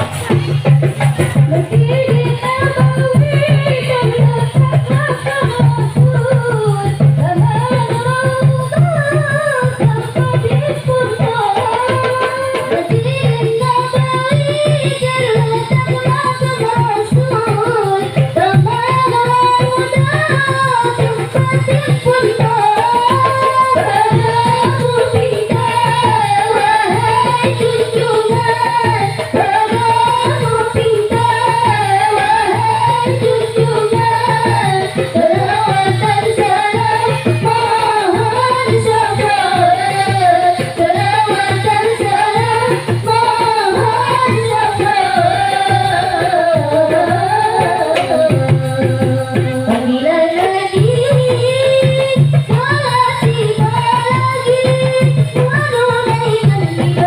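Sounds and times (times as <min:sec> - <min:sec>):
frame drums: 0:00.0 - 0:57.0.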